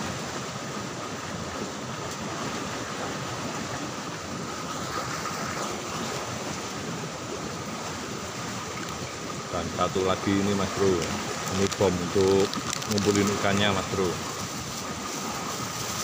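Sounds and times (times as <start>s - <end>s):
fast-flowing stream rushing: 0.0s - 16.0s.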